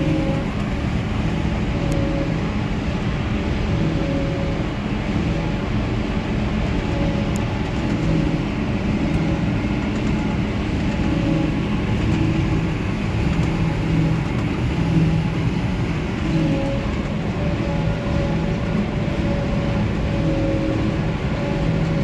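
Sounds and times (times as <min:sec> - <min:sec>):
farm machinery diesel engines: 0:00.0 - 0:22.0.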